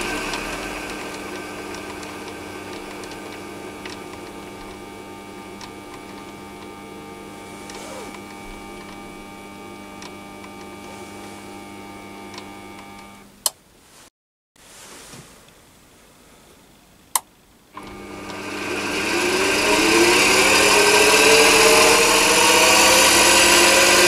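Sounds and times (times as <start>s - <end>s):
lathe motor humming and whining: 0.0s - 13.3s, 17.8s - 24.0s.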